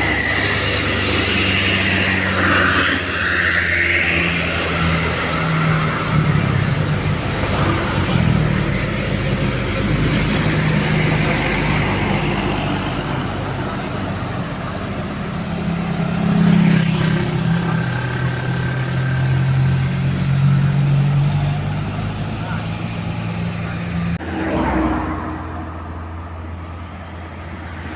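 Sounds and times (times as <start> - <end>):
bus engines running: 0.0 - 27.9
heavy road traffic: 0.0 - 27.9.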